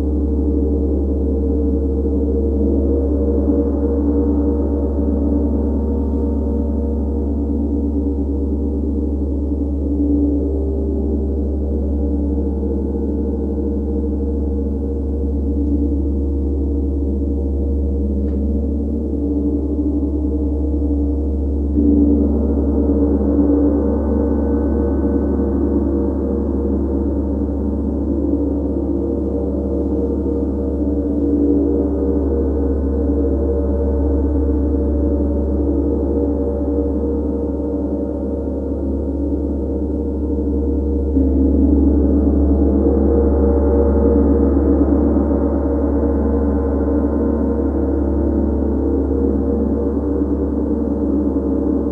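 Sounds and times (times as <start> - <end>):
gong played with soft mallet: 0.0 - 51.9.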